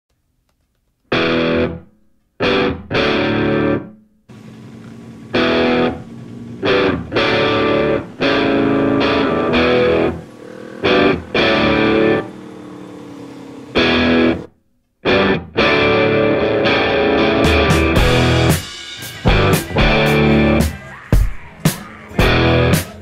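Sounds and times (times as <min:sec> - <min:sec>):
distorted electric guitar riff: 0:01.1 - 0:03.9, 0:05.3 - 0:14.5, 0:15.1 - 0:23.0
rock music: 0:01.1 - 0:03.9, 0:05.3 - 0:13.0, 0:13.7 - 0:14.5, 0:15.1 - 0:23.0.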